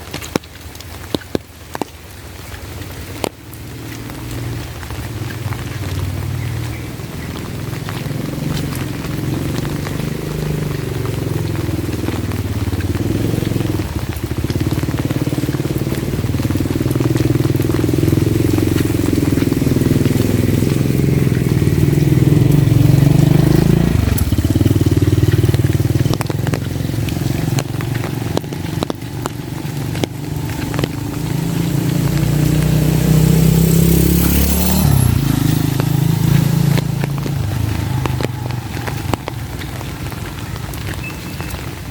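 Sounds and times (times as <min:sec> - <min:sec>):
steady rain hiss: 0:00.0 - 0:41.9
vehicle engine revving: 0:03.6 - 0:41.0.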